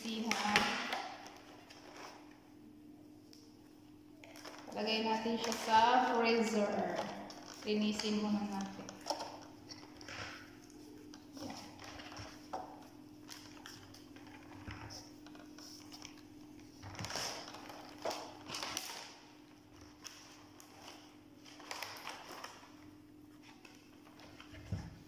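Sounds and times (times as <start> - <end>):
plastic packaging clicking and crackling: 0.0 - 2.4, 4.2 - 25.0
low steady hum: 0.0 - 25.0.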